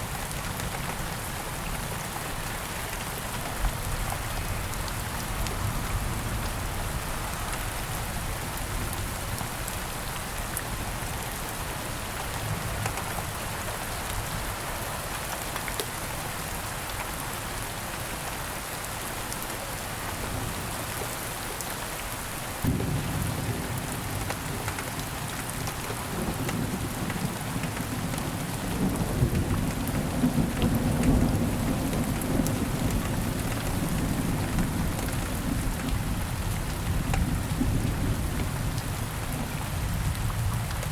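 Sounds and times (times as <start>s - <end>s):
rain pattering on ground: 0.0s - 40.9s.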